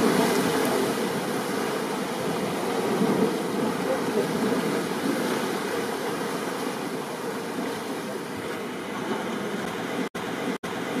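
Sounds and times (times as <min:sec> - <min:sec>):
ocean surf: 0:00.0 - 0:11.0
rain: 0:00.0 - 0:11.0.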